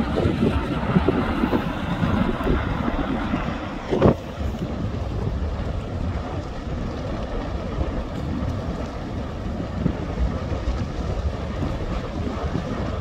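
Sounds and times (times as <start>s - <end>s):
volcano deep rumble: 0.0s - 13.0s.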